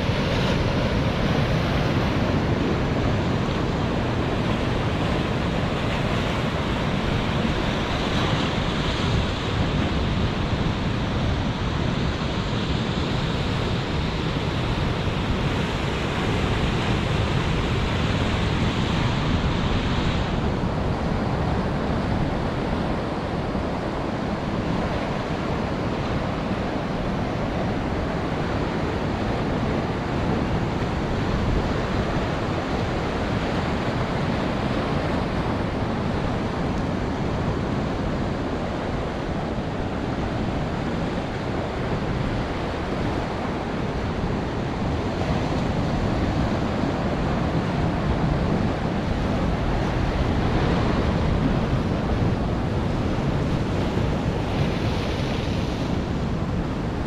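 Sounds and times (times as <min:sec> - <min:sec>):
ocean surf breaking: 0:00.0 - 0:57.0
wind blowing across microphone: 0:00.0 - 0:57.0.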